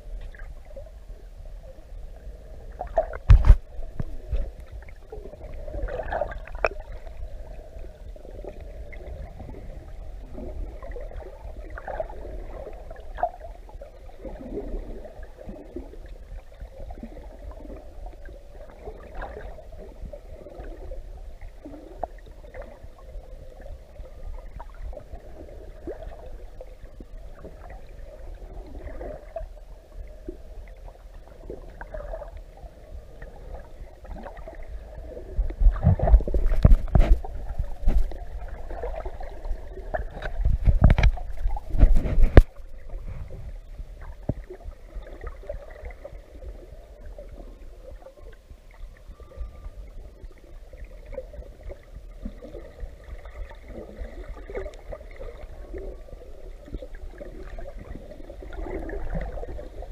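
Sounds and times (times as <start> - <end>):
faint clicks and swishes: 0.0 - 59.9
muffled underwater rumble: 0.0 - 59.9.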